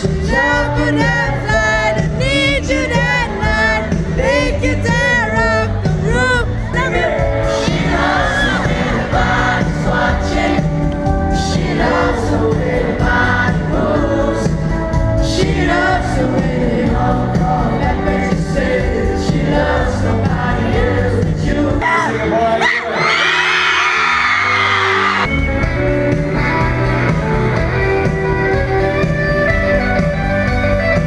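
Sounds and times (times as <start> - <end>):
crowd singing along: 0.0 - 25.3
live pop band with vocals: 0.0 - 31.0.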